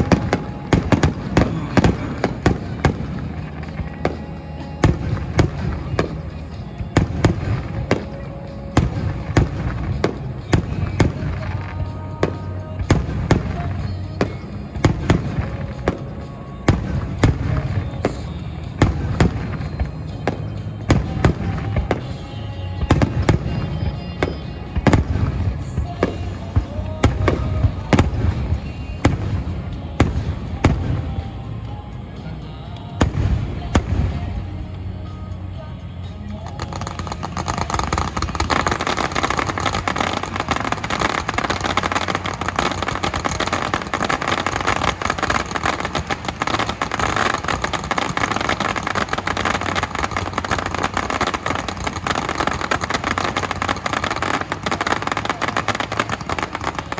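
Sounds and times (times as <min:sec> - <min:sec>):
fireworks bursting with sharp bangs: 0:00.0 - 0:56.9.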